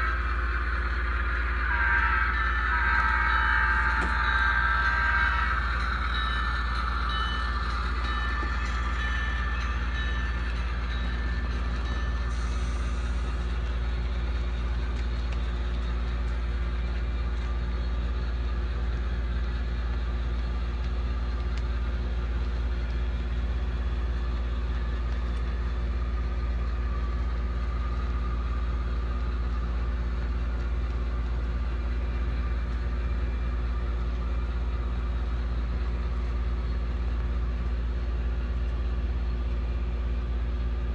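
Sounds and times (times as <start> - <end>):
model train rolling: 0.0 - 40.9.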